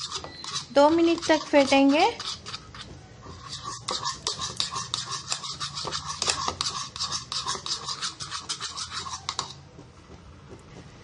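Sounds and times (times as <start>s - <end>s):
utensil scraping a bowl: 0.0s - 9.7s.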